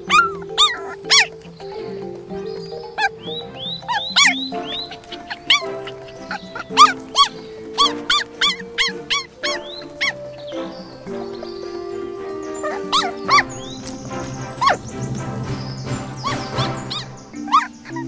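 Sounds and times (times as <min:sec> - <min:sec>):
background music: 0:00.0 - 0:18.0
puppies whining and yelping: 0:00.0 - 0:18.0.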